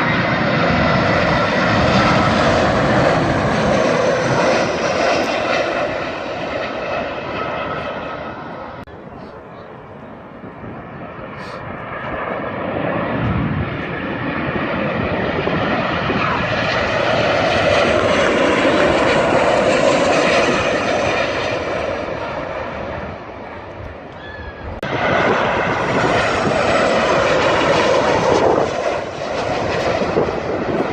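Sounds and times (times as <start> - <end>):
airliner engines overhead: 0.0 - 30.9.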